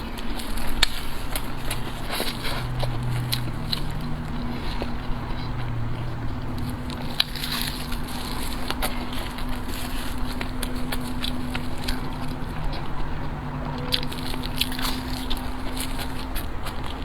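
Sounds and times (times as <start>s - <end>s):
crunchy biting and chewing: 0.0s - 17.0s
low hum: 0.0s - 17.0s.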